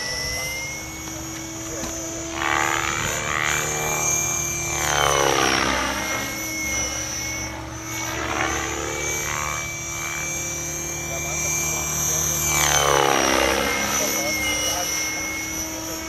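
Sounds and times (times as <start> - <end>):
rc helicopter motor whine: 0.0 - 16.0
rotor blades whooshing: 0.0 - 16.0.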